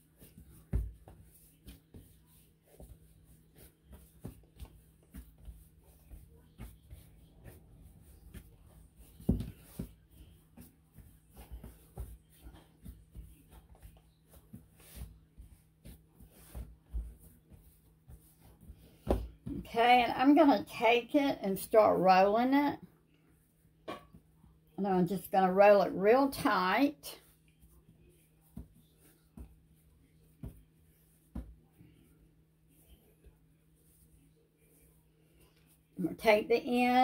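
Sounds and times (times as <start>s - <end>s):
hands patting bread dough: 0.0s - 21.2s, 26.2s - 37.0s.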